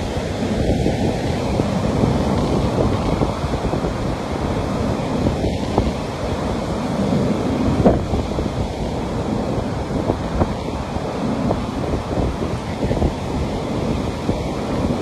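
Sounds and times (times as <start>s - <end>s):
ocean surf breaking on beach: 0.0s - 15.0s
wind rumbling on microphone: 0.0s - 15.0s.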